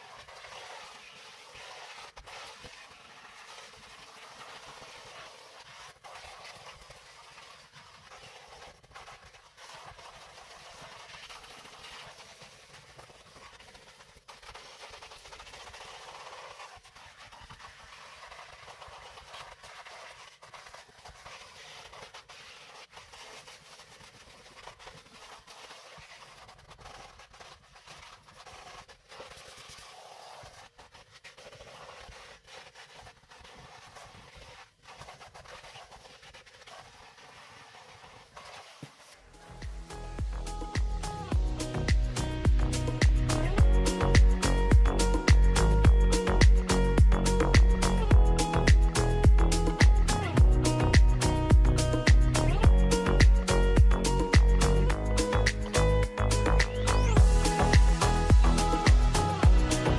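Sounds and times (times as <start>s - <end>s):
nozzle clicks and scrapes: 0.0s - 59.9s.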